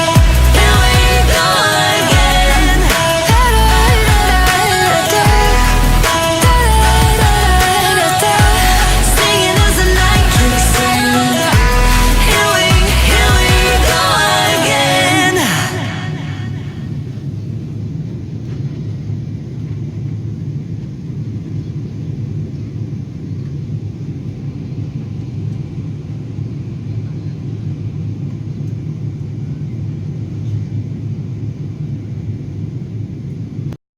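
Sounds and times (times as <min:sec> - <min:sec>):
airplane cabin rumble: 0:00.0 - 0:33.8.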